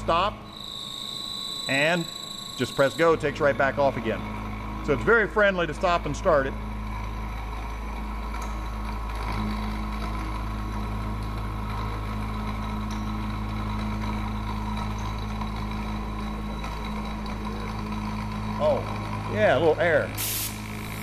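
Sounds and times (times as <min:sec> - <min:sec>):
milling machine hum and whine: 0:00.0 - 0:21.0.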